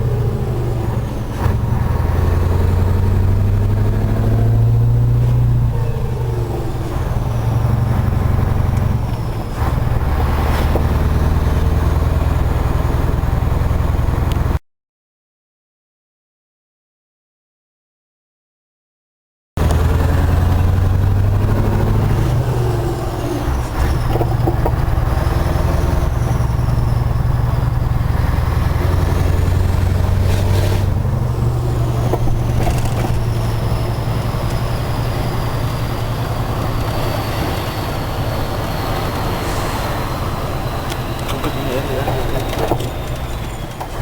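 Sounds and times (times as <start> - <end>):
diesel truck engine under load: 0.0 - 14.6, 19.6 - 44.0.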